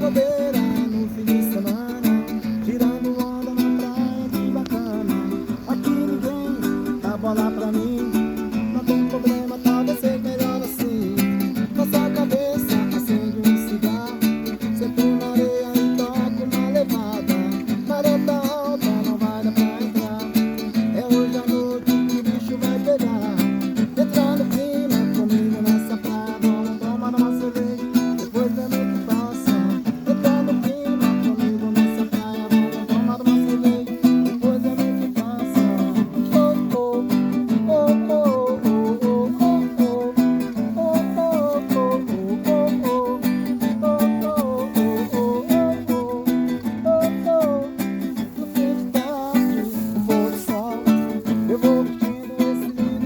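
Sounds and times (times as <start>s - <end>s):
plucked string instrument music: 0.0s - 53.0s.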